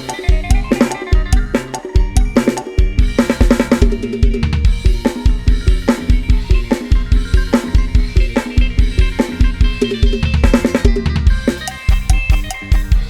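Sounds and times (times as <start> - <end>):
snare and cymbal hits: 0.0 - 13.0
upbeat band music: 0.0 - 13.0.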